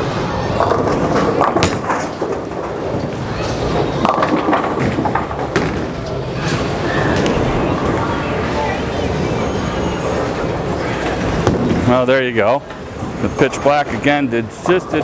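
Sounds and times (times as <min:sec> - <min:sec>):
bowling ball rolling: 0:00.0 - 0:14.0.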